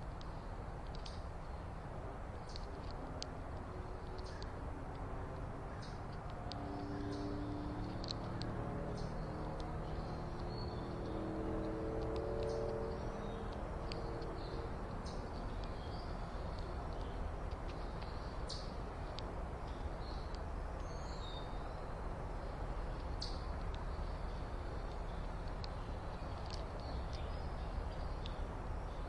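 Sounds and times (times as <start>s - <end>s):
low background rumble: 0.0s - 29.0s
low hum: 0.0s - 29.0s
small birds chirping: 0.0s - 29.0s.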